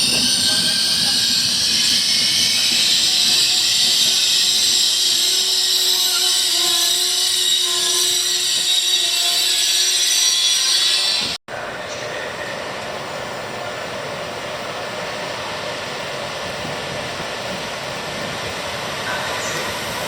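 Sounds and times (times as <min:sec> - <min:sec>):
train passing on tracks: 0:00.0 - 0:20.0.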